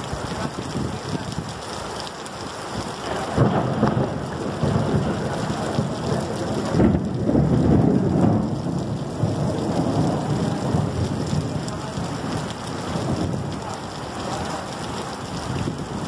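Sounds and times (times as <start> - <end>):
heavy rain pouring: 0.0 - 16.0
thunder rumbling: 2.7 - 16.0.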